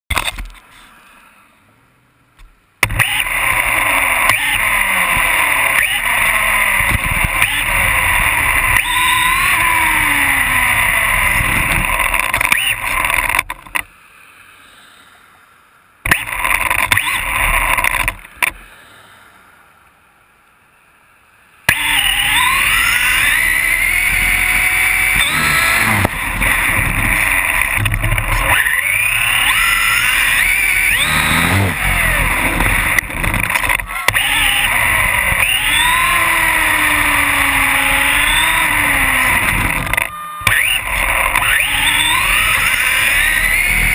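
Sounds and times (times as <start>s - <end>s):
electric motor whine: 2.8s - 13.6s, 16.1s - 18.7s, 21.6s - 43.9s.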